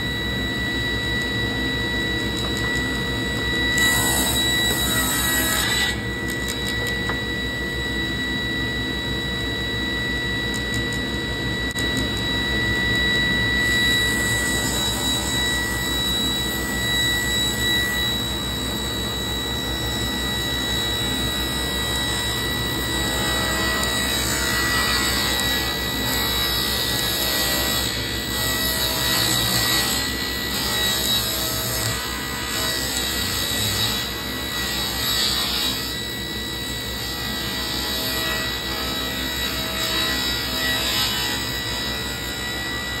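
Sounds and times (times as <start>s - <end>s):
table saw whine: 0.0s - 43.0s.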